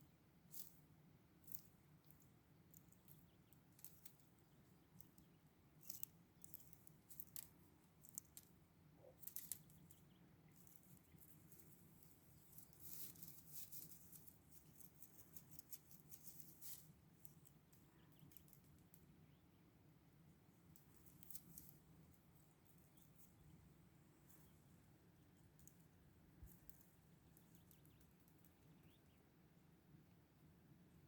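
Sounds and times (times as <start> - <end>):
soft rustling and crackling: 0.0 - 19.4, 20.3 - 29.2.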